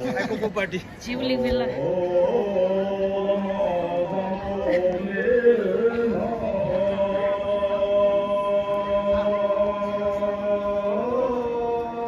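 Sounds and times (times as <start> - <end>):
man singing into a microphone: 1.7 - 12.0.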